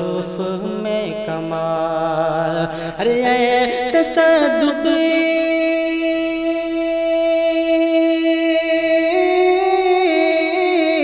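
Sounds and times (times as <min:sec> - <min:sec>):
person singing long ornamented note: 0:00.0 - 0:11.0.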